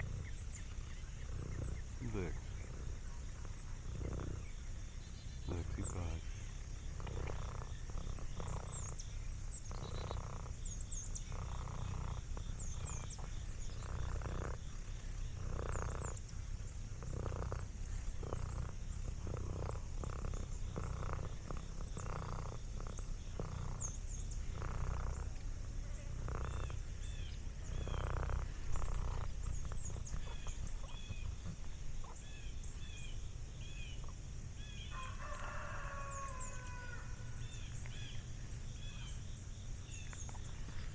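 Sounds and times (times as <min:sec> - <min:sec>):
cat purring: 0:00.0 - 0:34.2
small birds chirping: 0:00.0 - 0:40.9.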